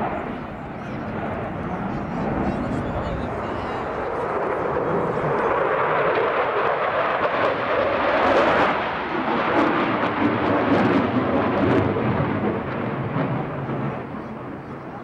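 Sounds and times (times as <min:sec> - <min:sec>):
jet flying past: 0:00.0 - 0:15.0.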